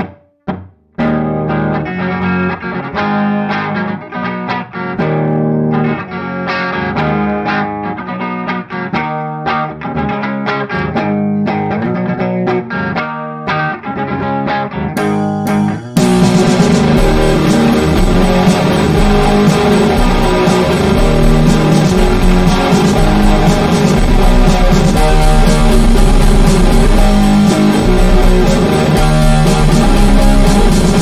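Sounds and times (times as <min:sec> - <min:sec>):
guitar playing: 0:00.0 - 0:31.0.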